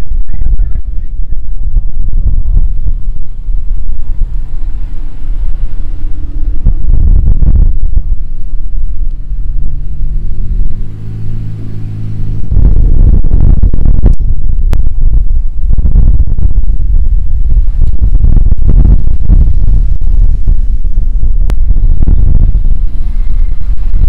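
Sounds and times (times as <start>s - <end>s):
cars passing with exhaust rumble: 0.0s - 24.0s.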